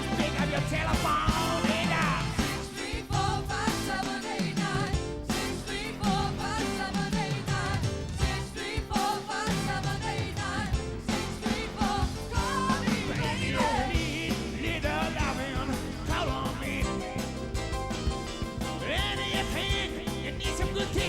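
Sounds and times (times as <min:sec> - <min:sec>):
lead vocal singing: 0:00.0 - 0:17.6, 0:18.6 - 0:21.0
live soul band playing: 0:00.0 - 0:21.0
steady drum beat: 0:00.0 - 0:21.0.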